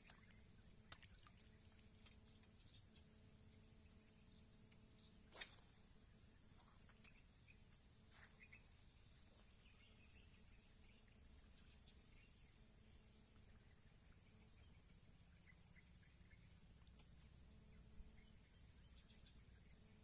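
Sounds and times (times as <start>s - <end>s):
crickets droning: 0.0s - 20.0s.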